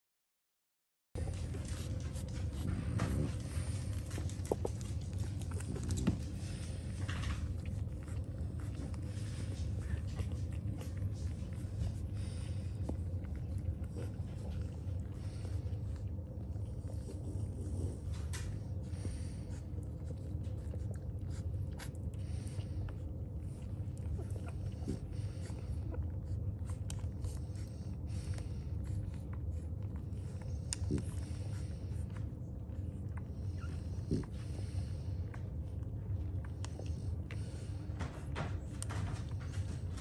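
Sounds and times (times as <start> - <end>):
puppies suckling with wet smacks: 1.2 - 40.0
steady low hum: 1.2 - 40.0.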